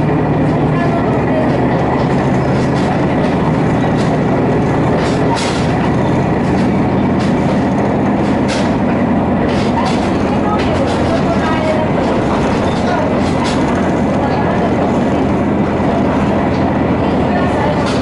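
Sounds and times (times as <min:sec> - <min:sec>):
diesel engine drone: 0:00.0 - 0:18.0
wheel-on-rail rumble: 0:00.0 - 0:18.0
wheel clicks over rail joints: 0:01.4 - 0:16.9.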